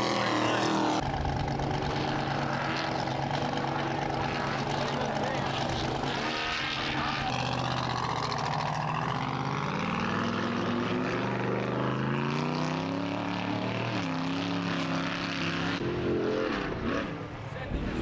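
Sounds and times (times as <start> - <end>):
race engine revving hard: 0.0 - 18.0.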